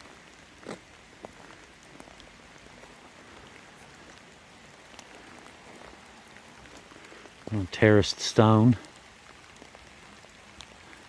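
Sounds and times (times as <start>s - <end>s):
light rain hiss: 0.0s - 11.0s
sharp drip ticks: 0.3s - 11.0s.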